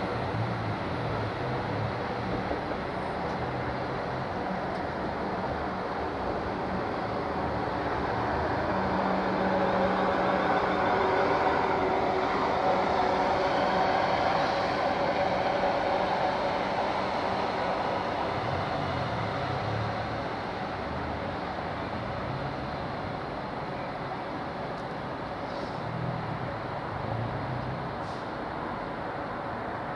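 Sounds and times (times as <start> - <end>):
train traction whine: 0.0 - 29.9
wheel-on-rail rumble: 0.0 - 29.9.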